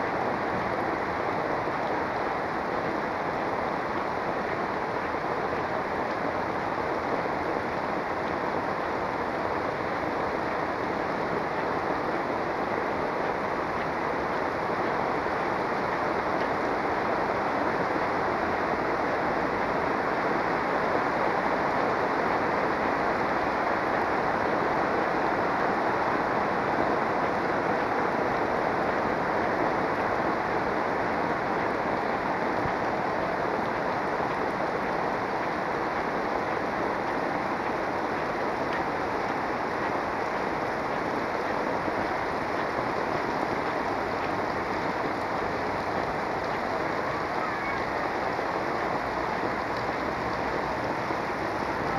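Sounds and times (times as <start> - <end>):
heavy rain on pavement and roofs: 0.0 - 51.9.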